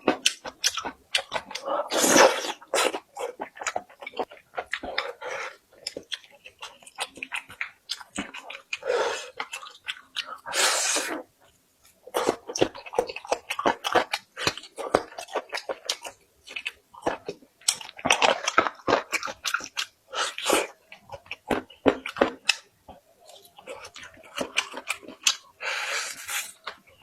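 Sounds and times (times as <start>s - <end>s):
food crunching: 0.0s - 27.0s
person chewing food: 0.0s - 27.0s.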